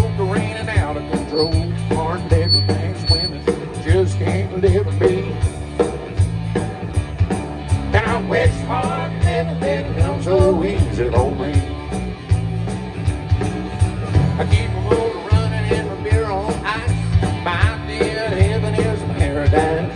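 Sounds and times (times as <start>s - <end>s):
country-rock band playing: 0.0s - 19.9s.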